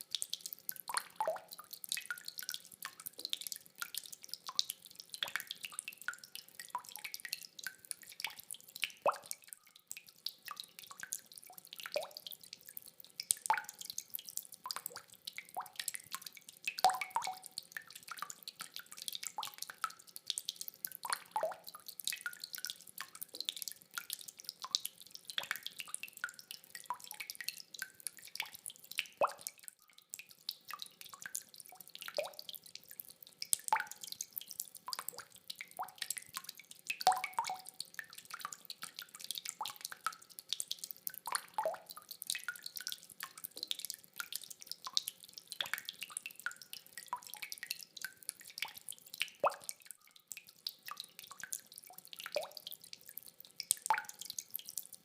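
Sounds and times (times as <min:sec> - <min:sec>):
rainwater dripping: 0:00.0 - 0:55.0.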